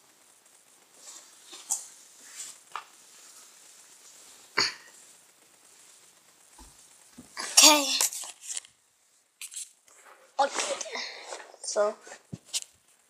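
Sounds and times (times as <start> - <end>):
soft rustles: 0.0 - 13.0.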